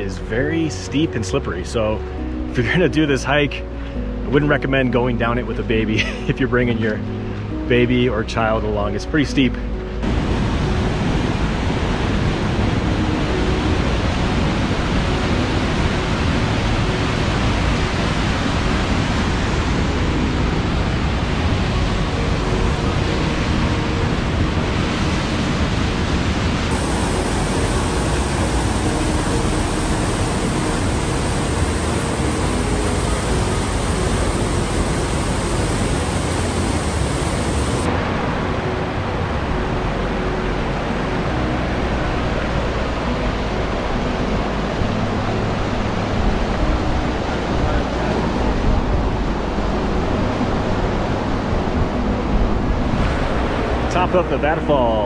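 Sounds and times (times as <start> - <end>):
waterfall rushing: 10.0 - 55.0.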